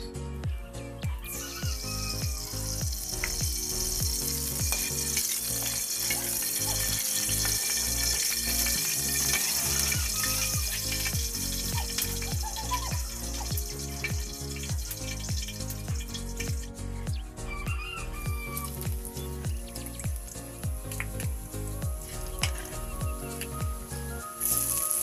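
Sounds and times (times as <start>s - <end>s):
background music with deep beat: 0.0s - 25.0s
food sizzling in oil: 1.3s - 16.7s, 17.8s - 25.0s.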